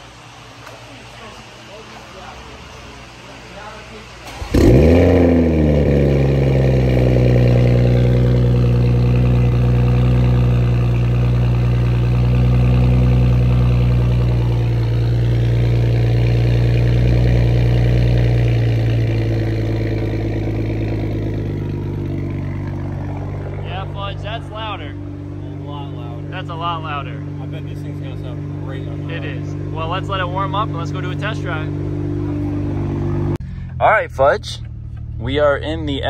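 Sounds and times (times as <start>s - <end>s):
car engine idling: 0.0s - 36.0s
car engine starting and revving: 4.2s - 36.0s.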